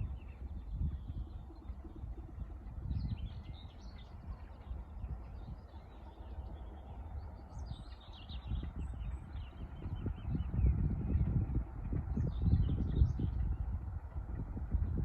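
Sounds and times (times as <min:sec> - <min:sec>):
uneven low rumble: 0:00.0 - 0:15.0.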